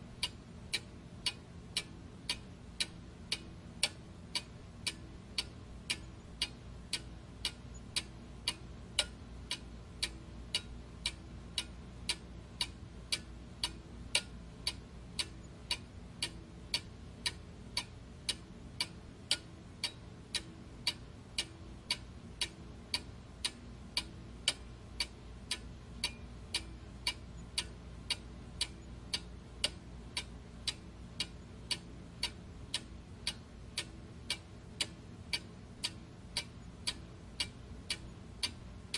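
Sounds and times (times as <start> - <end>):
steady ticking: 0.0 - 38.9.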